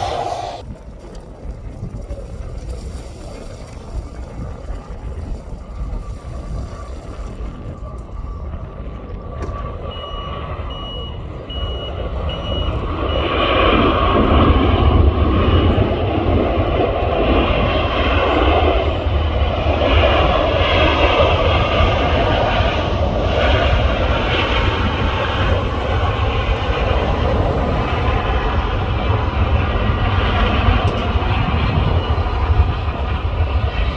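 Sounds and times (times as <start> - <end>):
jet airliner engine noise: 0.0 - 33.9.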